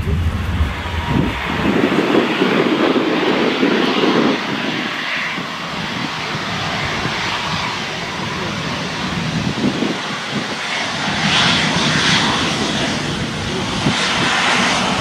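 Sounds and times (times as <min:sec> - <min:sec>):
jet engine and air rush: 0:00.0 - 0:15.0
wheels rumbling on runway: 0:00.0 - 0:15.0.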